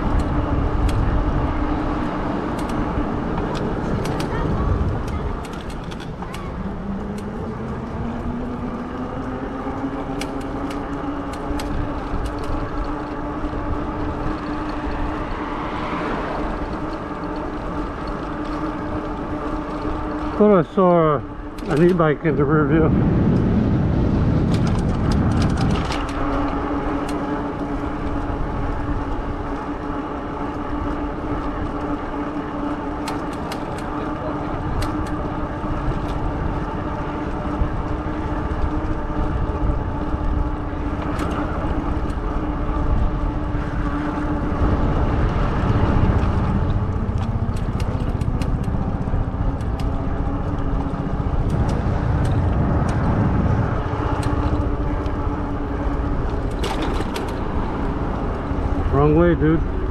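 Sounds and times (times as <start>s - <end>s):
e-bike motor and tires whining: 0.0s - 59.9s
low rumble: 0.0s - 59.9s.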